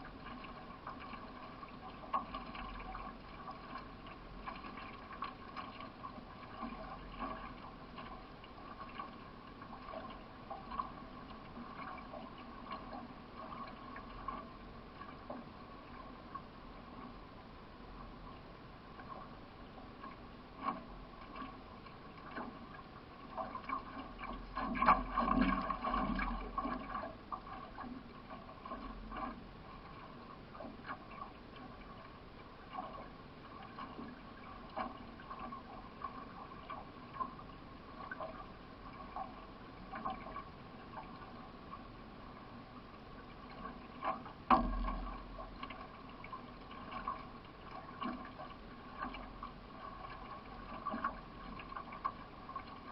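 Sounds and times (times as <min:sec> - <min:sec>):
paddle strokes and knocks: 0:00.0 - 0:52.9
water splashing around canoe: 0:00.0 - 0:52.9.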